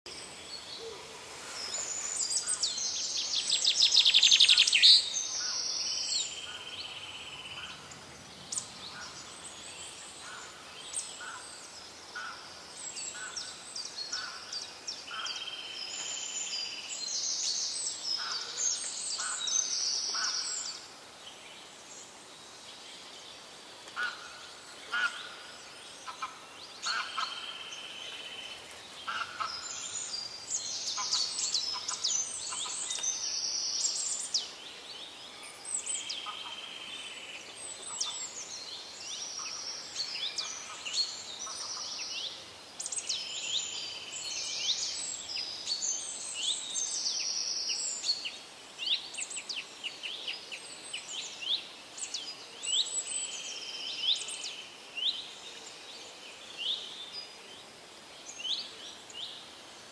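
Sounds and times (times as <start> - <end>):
small birds chirping and trilling: 0.1 - 59.9.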